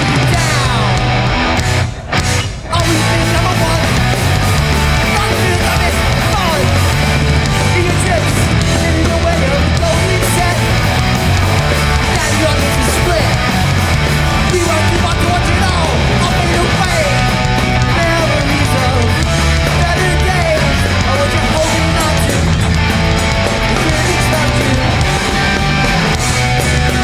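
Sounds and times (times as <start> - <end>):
live hardcore punk band: 0.0 - 27.0.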